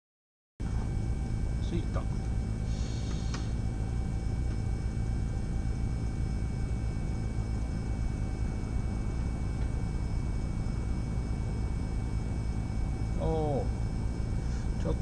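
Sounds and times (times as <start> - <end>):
steady low hum: 0.6 - 15.0
thin high electronic whines: 0.6 - 15.0.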